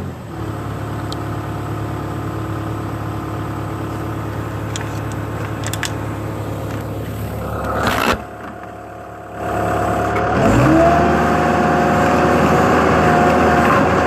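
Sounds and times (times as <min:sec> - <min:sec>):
machine engine running: 0:00.0 - 0:14.0.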